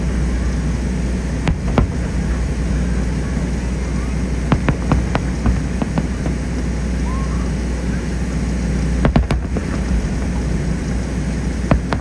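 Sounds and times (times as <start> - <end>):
distant fireworks booms: 0.0 - 12.0
fireworks sharp cracks: 0.9 - 12.0.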